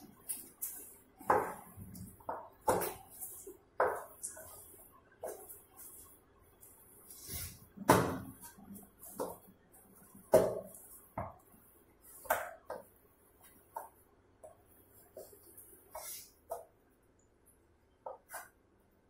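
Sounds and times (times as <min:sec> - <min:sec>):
dough kneaded in steel bowl: 0:00.0 - 0:17.0.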